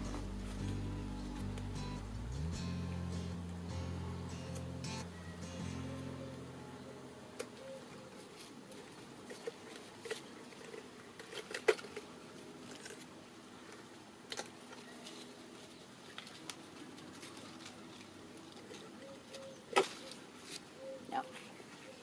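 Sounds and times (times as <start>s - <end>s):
leaves rustling: 0.0s - 14.0s, 14.6s - 22.0s.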